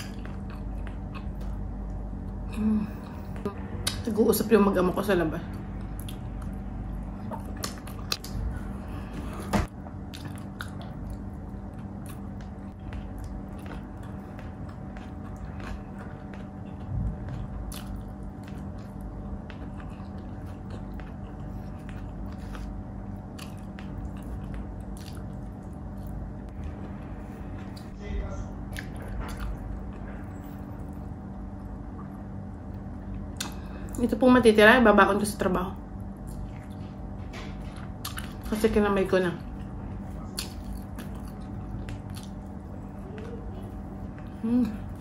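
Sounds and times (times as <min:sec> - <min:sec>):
chewing and biting food: 0:00.0 - 0:02.4, 0:05.5 - 0:28.0, 0:28.7 - 0:34.0, 0:36.0 - 0:38.5, 0:39.4 - 0:45.0
steady low hum: 0:00.0 - 0:45.0.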